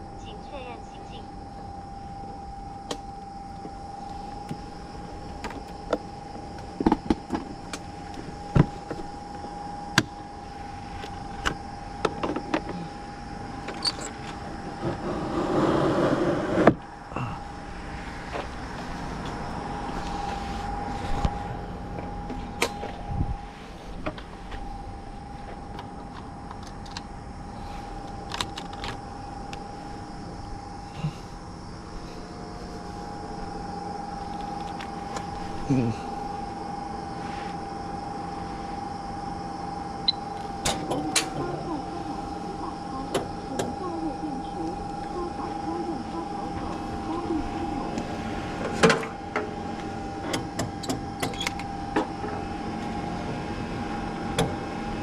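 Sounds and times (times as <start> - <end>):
steady high hum: 0.0 - 55.0.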